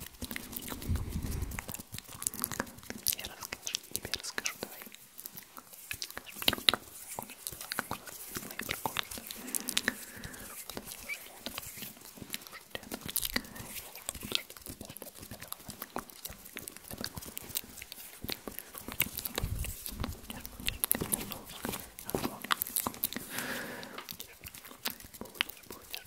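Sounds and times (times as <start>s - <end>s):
small clicks and crackles: 0.0s - 26.0s.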